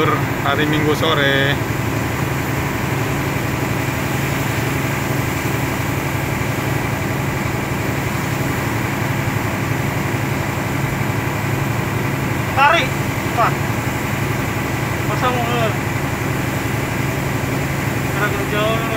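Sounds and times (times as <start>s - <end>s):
road noise: 0.0s - 18.9s
truck engine running: 0.0s - 18.9s.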